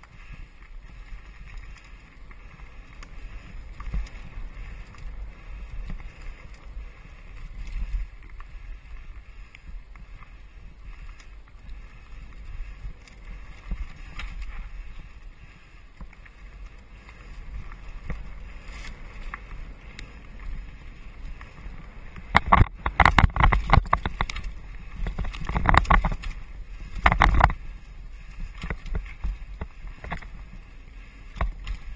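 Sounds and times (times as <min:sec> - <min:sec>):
bike rattling over rough ground: 0:00.0 - 0:31.9
small bike clicks and ticks: 0:00.0 - 0:31.9
tyres rumbling on dirt trail: 0:00.0 - 0:31.9
wind on microphone: 0:00.0 - 0:31.9.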